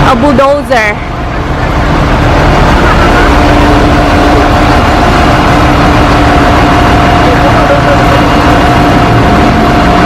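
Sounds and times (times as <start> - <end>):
heavy diesel engine rumbling: 0.0 - 10.0.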